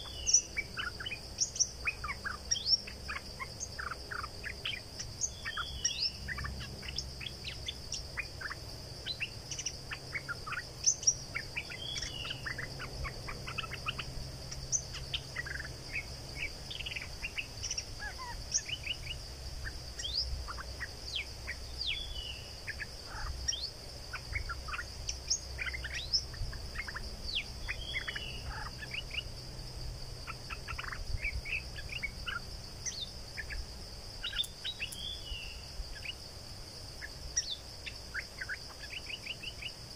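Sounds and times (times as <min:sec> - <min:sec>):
bird chirping calls: 0:00.0 - 0:29.4, 0:30.2 - 0:36.2, 0:37.0 - 0:39.9.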